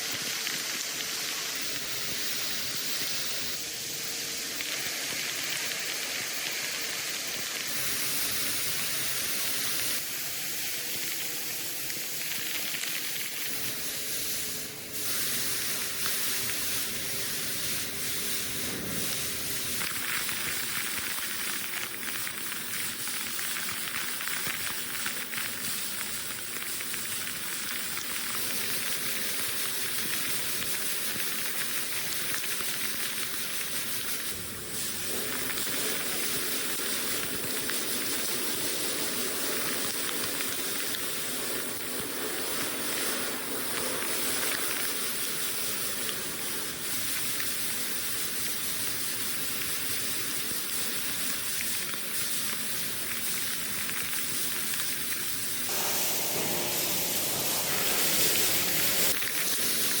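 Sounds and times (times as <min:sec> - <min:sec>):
steady hissing noise: 0:00.0 - 1:00.0.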